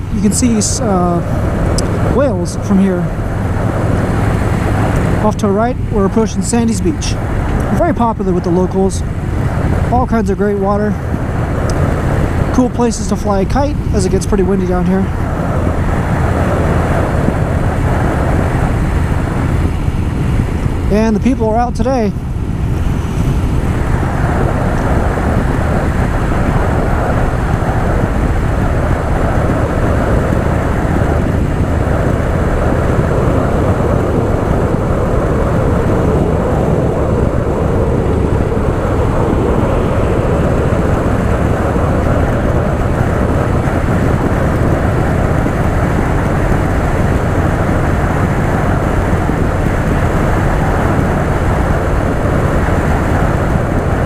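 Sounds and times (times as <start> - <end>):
motorcycle engine running: 0.0 - 54.0
rush of riding noise: 0.0 - 54.0.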